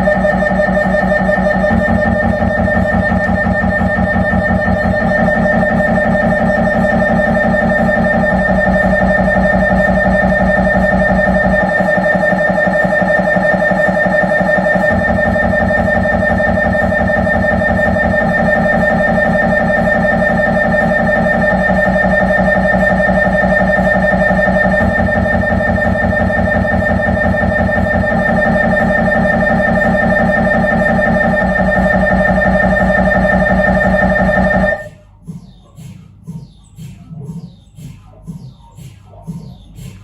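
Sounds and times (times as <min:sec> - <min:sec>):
mri scanner pulsing buzz: 0:00.0 - 0:35.0.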